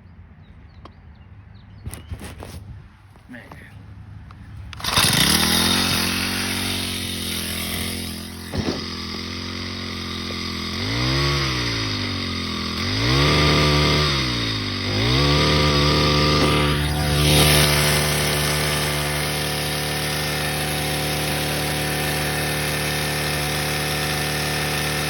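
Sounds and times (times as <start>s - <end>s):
small engine running unevenly: 4.7s - 25.0s.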